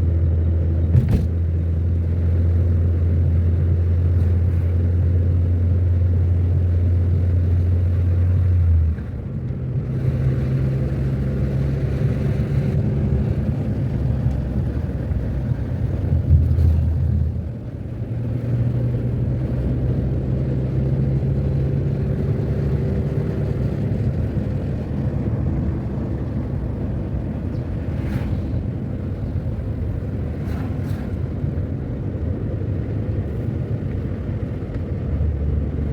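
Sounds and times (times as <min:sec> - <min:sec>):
car engine drone: 0:00.0 - 0:35.9
road rumble: 0:00.0 - 0:35.9.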